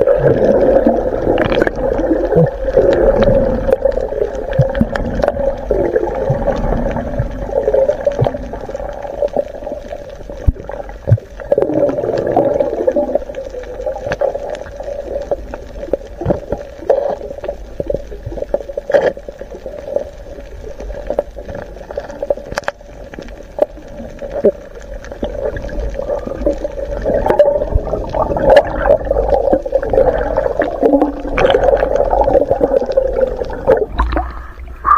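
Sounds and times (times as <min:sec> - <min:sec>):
muffled underwater water sloshing: 0:00.0 - 0:34.9.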